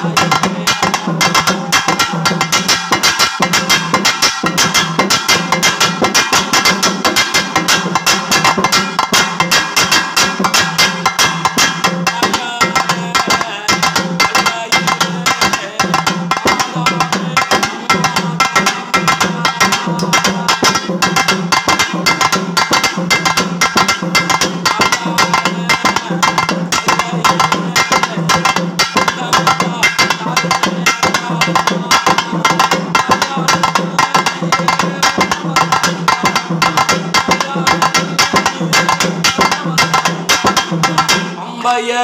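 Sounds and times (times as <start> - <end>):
stick-played drums: 0.0 - 41.6.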